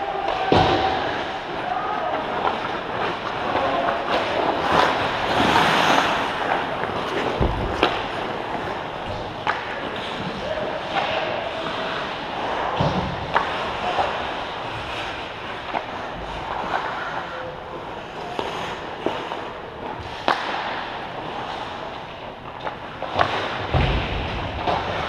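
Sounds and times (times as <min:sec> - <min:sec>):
hockey sticks and puck clacking: 0:00.0 - 0:25.0
skates scraping on ice: 0:00.2 - 0:25.0.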